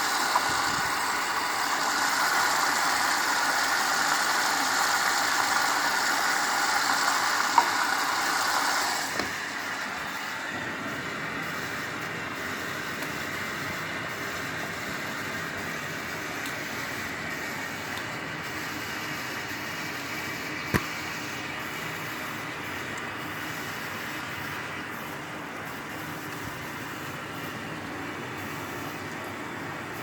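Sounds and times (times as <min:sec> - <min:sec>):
washing machine running: 0:00.0 - 0:30.0.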